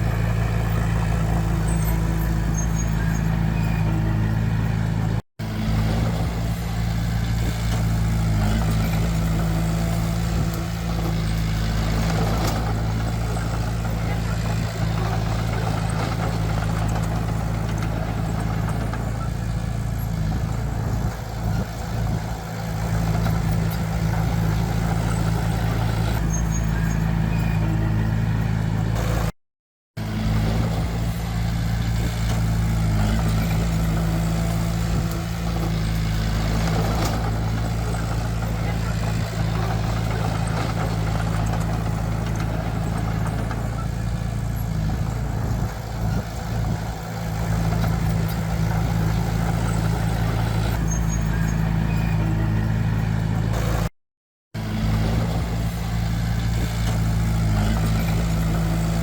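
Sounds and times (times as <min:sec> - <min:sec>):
heavy diesel engine droning: 0:00.0 - 0:29.4, 0:30.0 - 0:53.9, 0:54.6 - 0:59.0.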